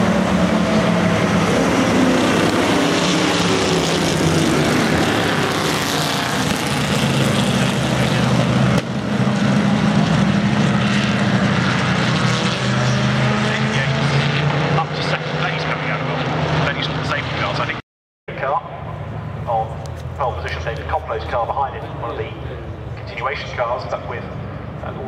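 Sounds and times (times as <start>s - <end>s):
racing car engines droning: 0.0s - 25.0s.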